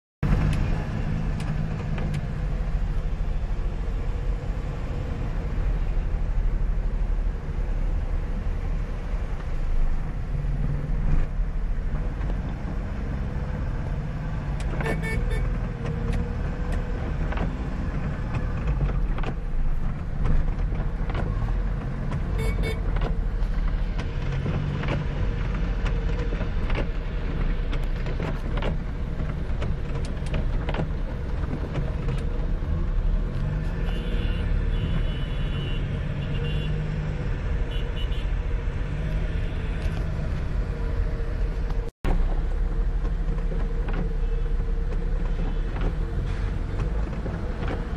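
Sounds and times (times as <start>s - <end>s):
car engine rumble: 0.2s - 47.9s
tyres on wet road: 0.2s - 47.9s.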